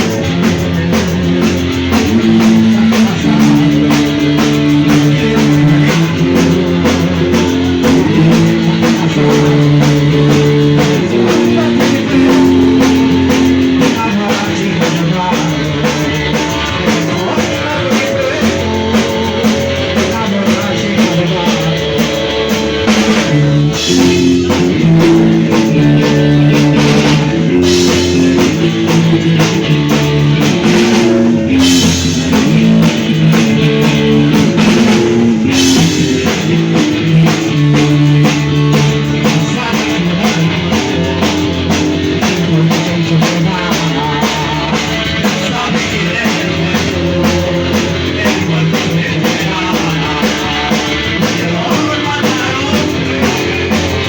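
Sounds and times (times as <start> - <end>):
live punk rock band playing: 0.0 - 54.0.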